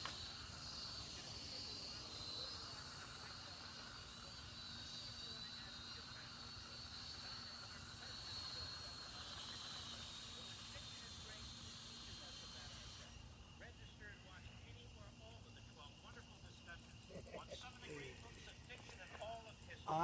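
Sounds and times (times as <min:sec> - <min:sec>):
toy drone motors whining: 0:00.0 - 0:14.1, 0:16.9 - 0:20.0
steady background hiss: 0:00.0 - 0:20.0.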